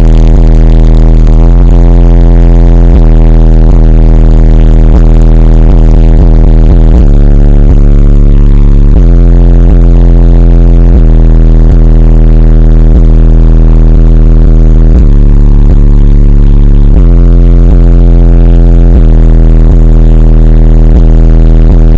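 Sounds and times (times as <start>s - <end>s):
distorted car stereo bass: 0.0s - 21.9s.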